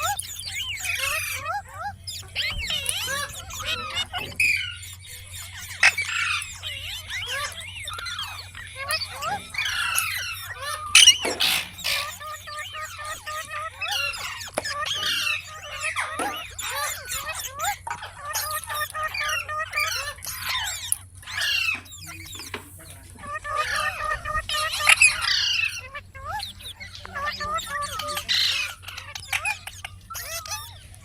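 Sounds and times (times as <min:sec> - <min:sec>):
parrots chirping and squawking: 0:00.0 - 0:31.0.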